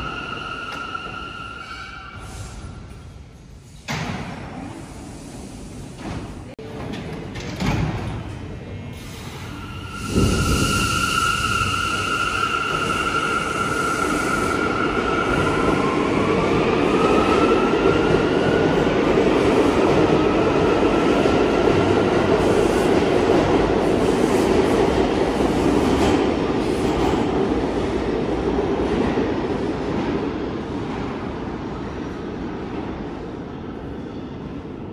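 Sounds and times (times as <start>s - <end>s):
subway train wheels rumbling on track: 0.0s - 34.9s.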